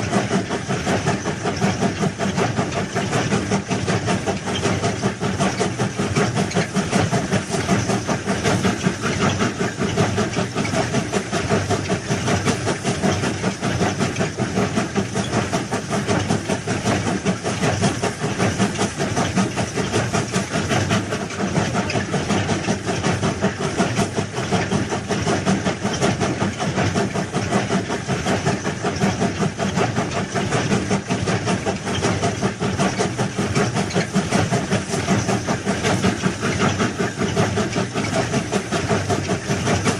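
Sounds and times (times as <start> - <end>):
track-laying machine clattering: 0.0 - 39.9.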